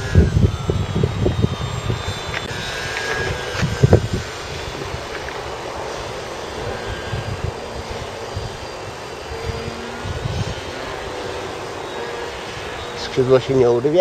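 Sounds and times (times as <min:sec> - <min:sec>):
model airplane motor buzzing: 0:00.0 - 0:14.0
outdoor noise hiss: 0:00.0 - 0:14.0.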